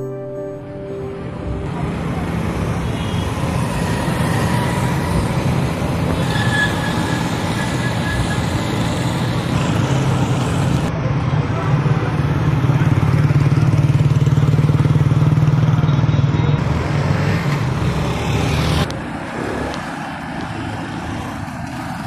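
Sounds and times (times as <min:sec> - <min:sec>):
car engines passing: 0:01.0 - 0:15.9, 0:16.5 - 0:22.0
motorcycle engines passing: 0:01.2 - 0:22.0.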